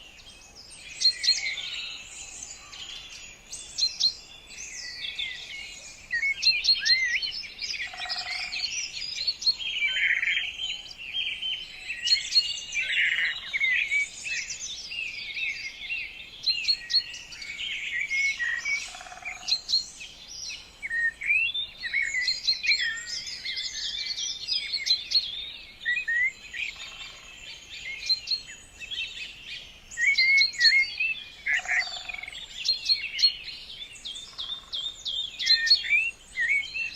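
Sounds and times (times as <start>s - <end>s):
birds chirping and singing: 0.0s - 36.9s.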